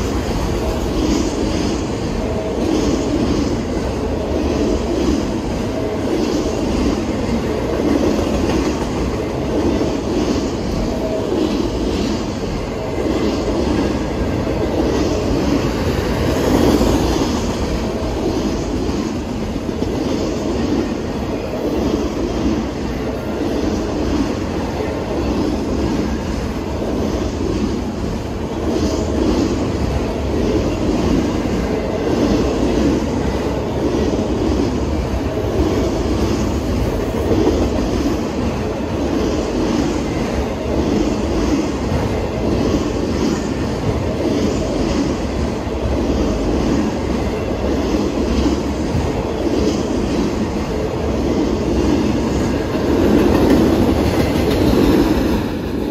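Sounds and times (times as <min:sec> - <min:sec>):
rhythmic clickety-clack of wheels: 0:00.0 - 0:55.9
steel train wheels rumbling on rail: 0:00.0 - 0:55.9.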